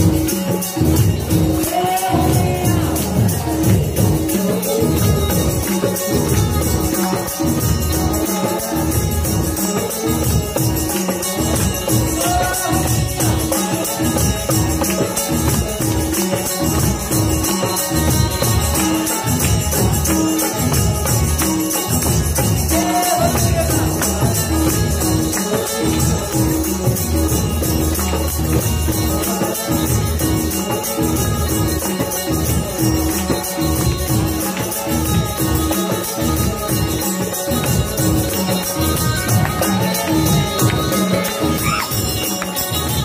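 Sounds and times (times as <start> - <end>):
hand drum rhythm: 0.0 - 43.0
harmonium holding reedy notes: 0.0 - 43.0
jingling percussion: 0.0 - 43.0.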